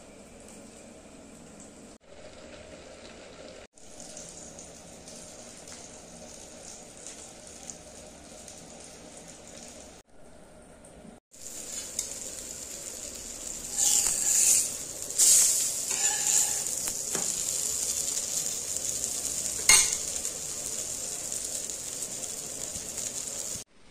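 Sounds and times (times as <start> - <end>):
vegetables sizzling in oil: 2.0 - 10.0, 11.3 - 23.7.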